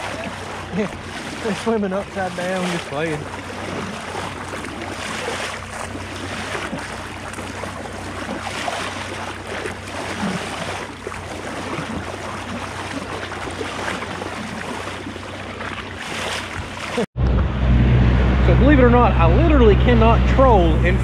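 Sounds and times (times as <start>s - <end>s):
boat motor humming: 0.0s - 21.0s
water splashing against hull: 0.0s - 21.0s.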